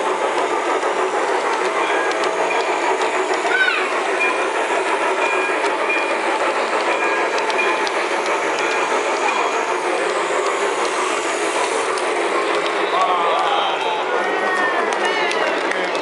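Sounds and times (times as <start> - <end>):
model train wheels rumbling on rail: 0.0 - 16.0.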